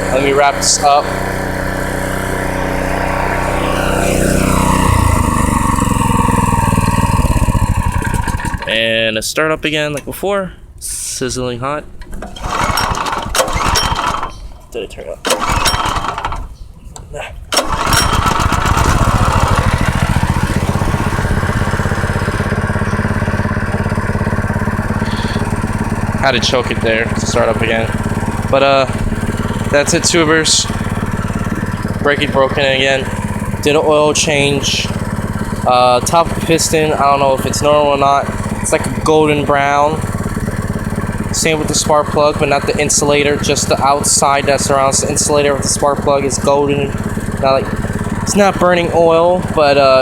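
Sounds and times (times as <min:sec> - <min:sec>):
small engine running: 0:00.0 - 0:08.9, 0:12.2 - 0:14.5, 0:15.2 - 0:16.6, 0:17.5 - 0:50.0.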